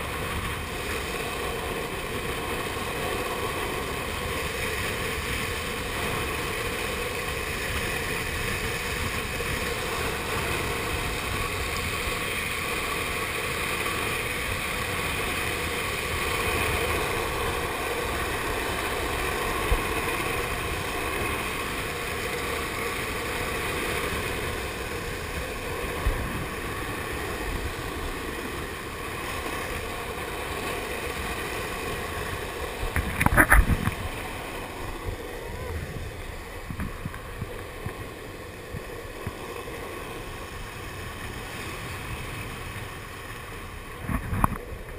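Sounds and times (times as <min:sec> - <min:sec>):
skateboard wheels rolling on asphalt: 0:00.0 - 0:44.9
wind rushing over microphone: 0:00.0 - 0:44.9.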